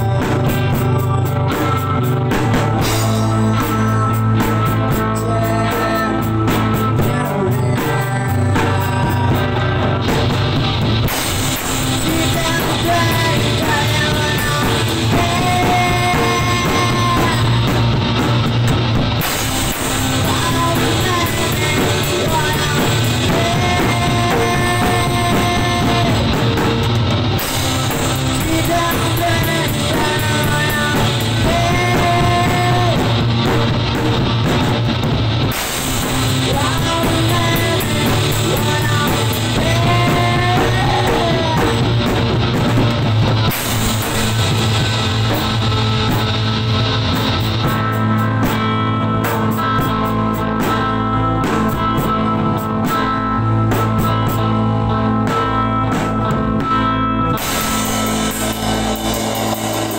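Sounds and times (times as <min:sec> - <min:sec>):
person singing: 0:00.0 - 0:34.8, 0:35.7 - 0:56.7
bass guitar: 0:00.0 - 0:59.9
drum kit: 0:00.0 - 0:59.9
electric guitar: 0:00.0 - 0:59.9.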